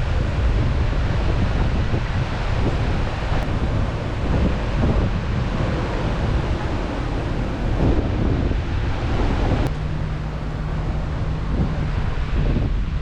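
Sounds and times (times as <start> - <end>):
steady low hum: 0.0 - 13.0
waves washing: 0.0 - 13.0
wind buffeting microphone: 0.0 - 13.0.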